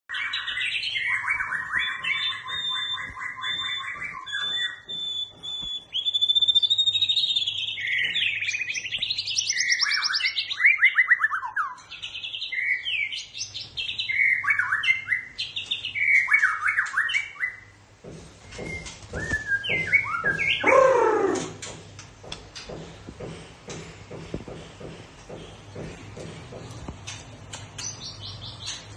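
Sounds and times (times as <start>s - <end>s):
songbird chirping and trilling: 0.0s - 22.8s, 26.5s - 28.9s.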